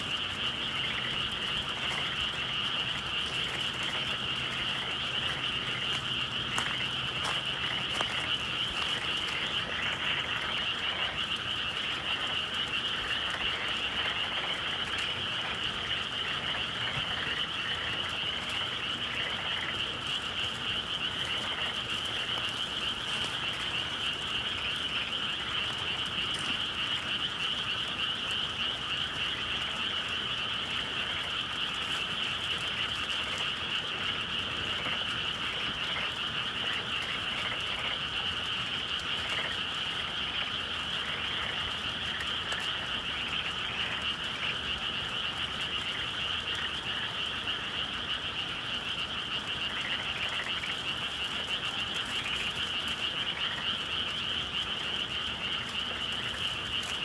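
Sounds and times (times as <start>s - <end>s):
chorus of frogs calling: 0.0s - 57.0s.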